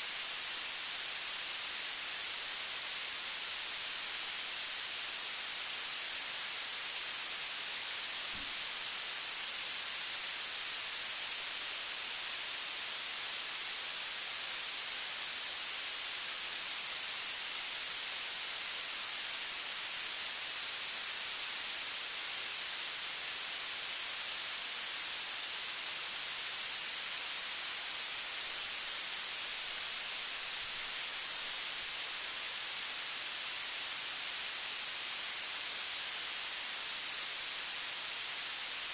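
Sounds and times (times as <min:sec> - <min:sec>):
recording hiss: 0:00.0 - 0:38.9.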